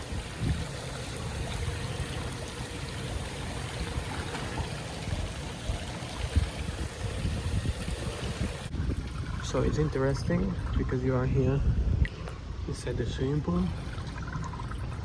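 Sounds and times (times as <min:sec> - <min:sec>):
water sloshing and trickling: 0:00.0 - 0:15.0.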